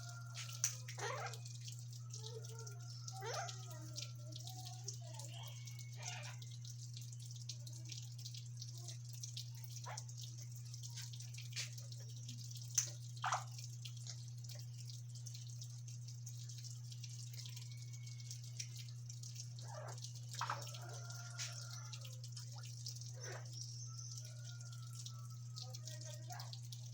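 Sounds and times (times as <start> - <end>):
parrots clicking and chirping: 0.0 - 16.4, 17.0 - 26.7.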